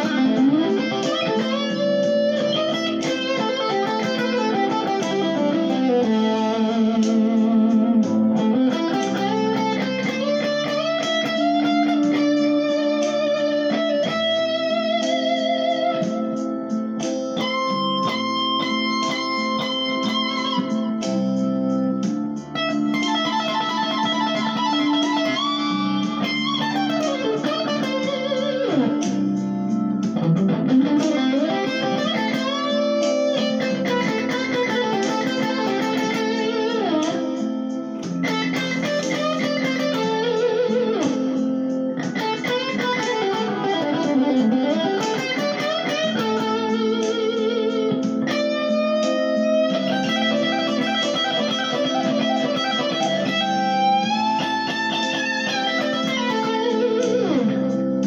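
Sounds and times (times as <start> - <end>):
electric guitar blues solo: 0.0 - 58.0
sustained accompanying chords: 0.0 - 58.0.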